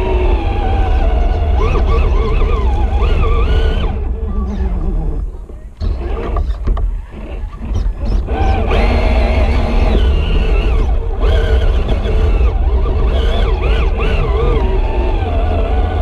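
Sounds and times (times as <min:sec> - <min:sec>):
electric motor and gear whine: 0:00.0 - 0:16.0
heavy chassis rumble: 0:00.0 - 0:16.0.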